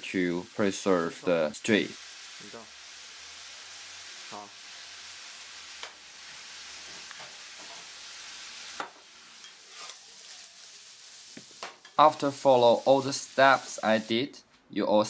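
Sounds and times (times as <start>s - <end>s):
food sizzling in a hot pan: 0.0s - 14.2s.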